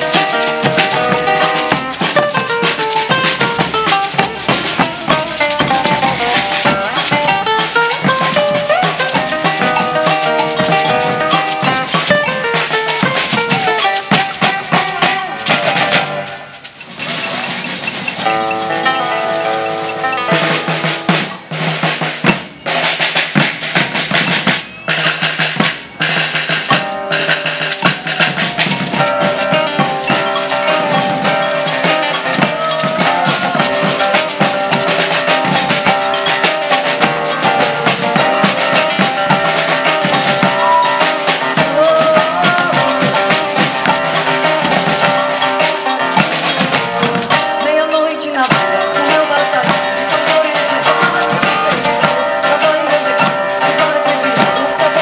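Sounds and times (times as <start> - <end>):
shakers: 0.0 - 21.3, 22.2 - 55.0
bass drums: 0.0 - 47.8, 48.4 - 55.0
snare drums: 0.0 - 55.0.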